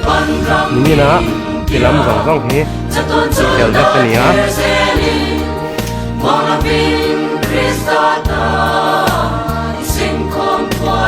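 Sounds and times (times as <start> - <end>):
bass accompaniment: 0.0 - 11.0
gospel choir singing: 0.0 - 11.0.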